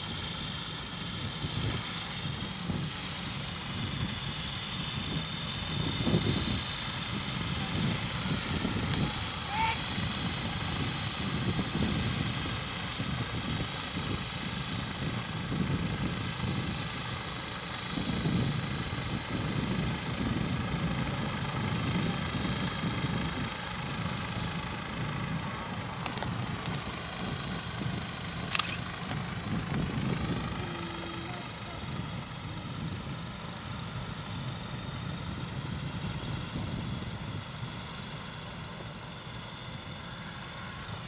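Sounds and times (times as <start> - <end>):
propeller engines droning: 0.0 - 41.0
wind rumbling on microphone: 0.0 - 41.0.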